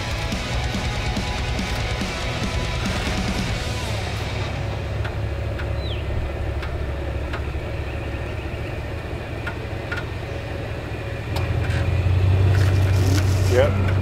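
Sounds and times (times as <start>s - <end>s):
engine idling low: 0.0s - 14.0s.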